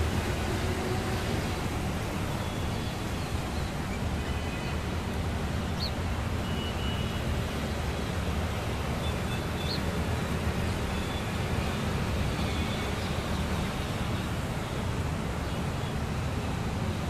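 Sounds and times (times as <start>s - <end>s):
outdoor rumble and hiss: 0.0s - 17.0s.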